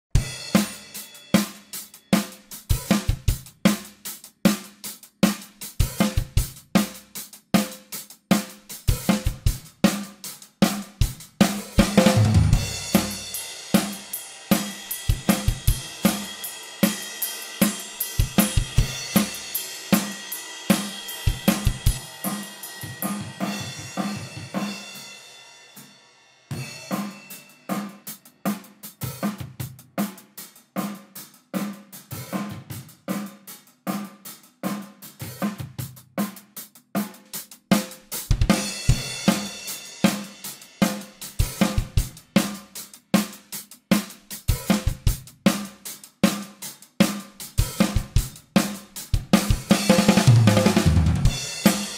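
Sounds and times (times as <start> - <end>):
drum kit groove: 0.0 - 51.9.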